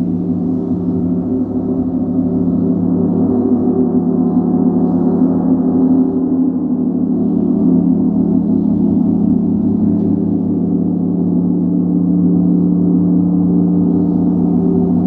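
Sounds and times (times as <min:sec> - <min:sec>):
gong ringing low drone: 0:00.0 - 0:15.0.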